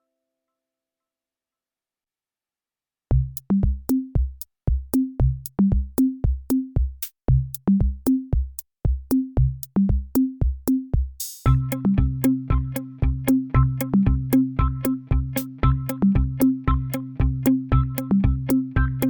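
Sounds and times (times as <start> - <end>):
drum machine beat with deep kicks: 3.1 - 19.0.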